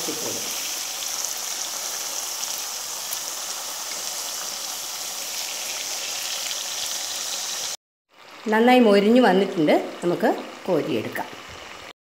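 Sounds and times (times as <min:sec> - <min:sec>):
food sizzling in deep oil: 0:00.0 - 0:12.0.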